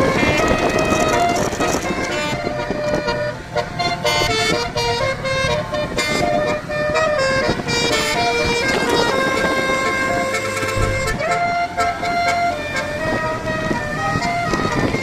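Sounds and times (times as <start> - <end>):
musical bus air horn tune: 0.0 - 15.0.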